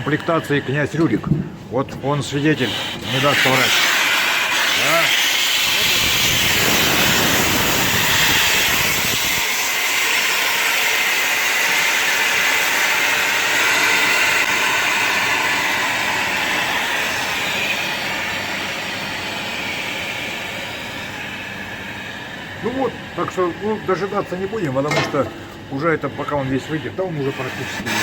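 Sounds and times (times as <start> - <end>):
steam hissing: 2.2 - 28.0.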